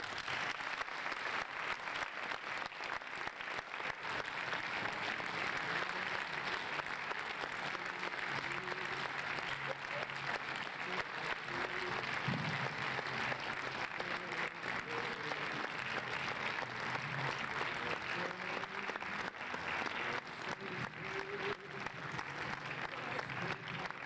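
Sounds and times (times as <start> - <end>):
audience applauding: 0.0 - 24.0
faint voices: 4.0 - 24.0.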